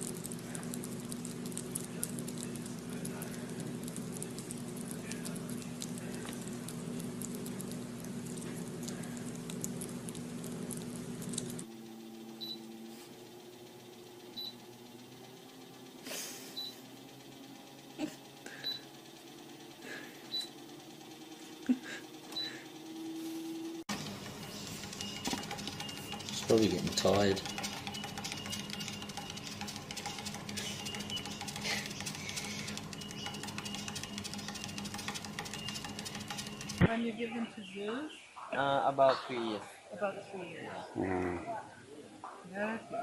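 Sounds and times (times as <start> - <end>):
treadmill motor humming: 0.0 - 37.6.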